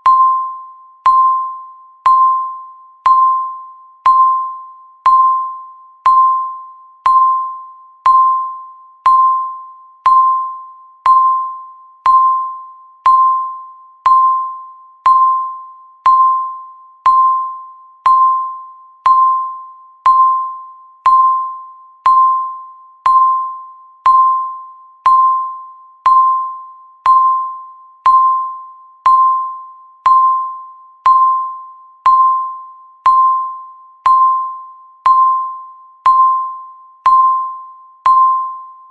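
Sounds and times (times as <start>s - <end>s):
countdown timer beeping: 0.0s - 38.9s.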